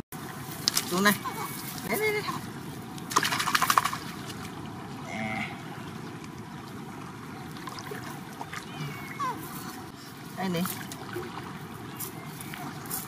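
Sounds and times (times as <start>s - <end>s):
steady outdoor hiss: 0.1s - 13.0s.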